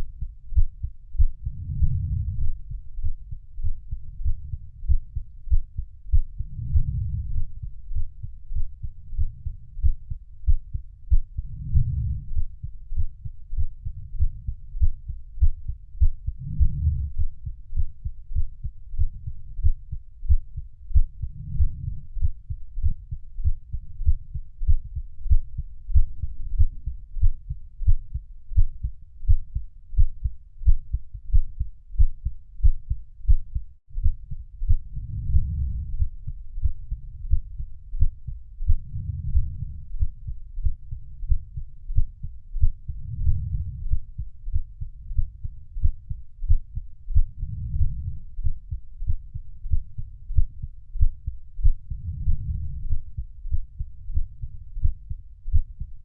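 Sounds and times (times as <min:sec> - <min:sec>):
heartbeat thumping: 0:00.0 - 0:56.0.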